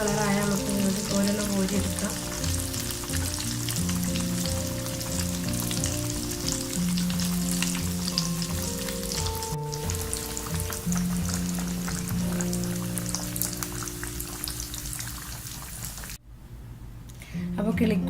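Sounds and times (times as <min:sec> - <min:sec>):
background music with held notes: 0:00.0 - 0:14.8, 0:17.2 - 0:18.0
food deep-frying in hot oil: 0:00.0 - 0:16.2.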